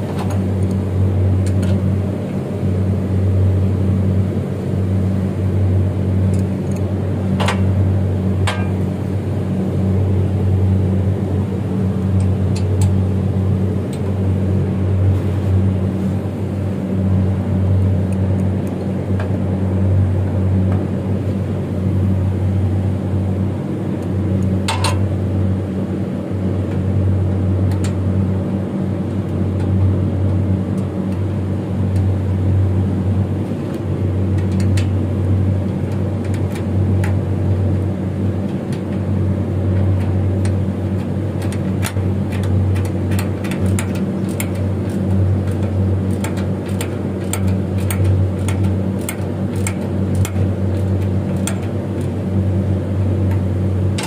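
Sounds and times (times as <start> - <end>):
machinery humming: 0.0 - 54.0.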